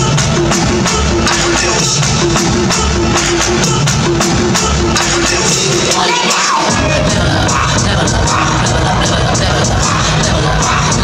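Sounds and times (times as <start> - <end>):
dance music over sound system: 0.0 - 11.0.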